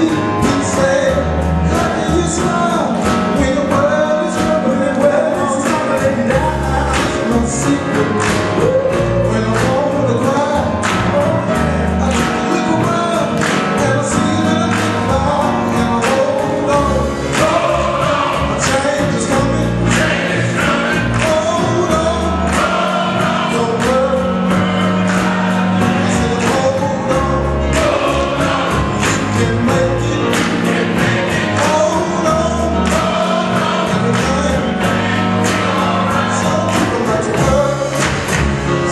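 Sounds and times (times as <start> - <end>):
gospel choir singing: 0.0 - 38.9
percussion and bass beat: 0.0 - 38.9.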